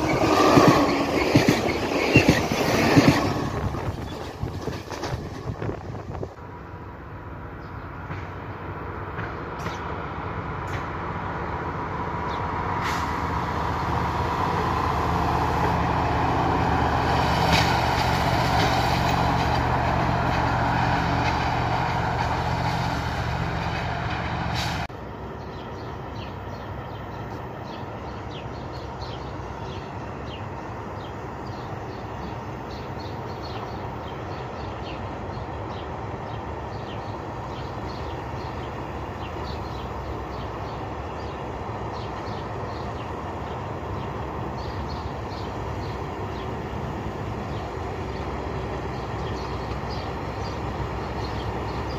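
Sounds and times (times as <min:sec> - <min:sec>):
distant freight train rumbling: 0:00.0 - 0:51.9
locomotive humming past: 0:00.0 - 0:51.9.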